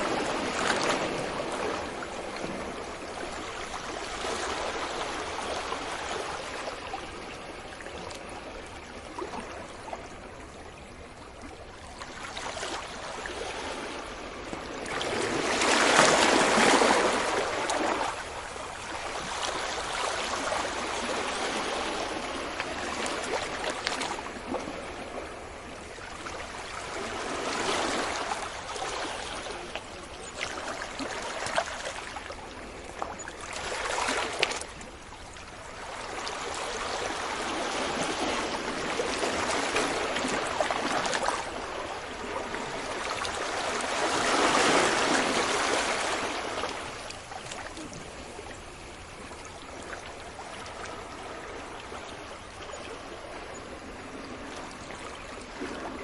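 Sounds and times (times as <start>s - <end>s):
sea waves washing onto beach: 0.0s - 10.2s, 12.1s - 56.0s.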